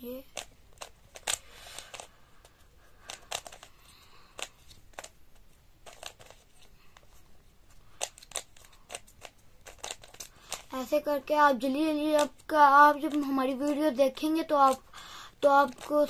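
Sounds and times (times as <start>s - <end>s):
puzzle cube layers clicking: 0.1s - 7.1s, 7.9s - 16.0s.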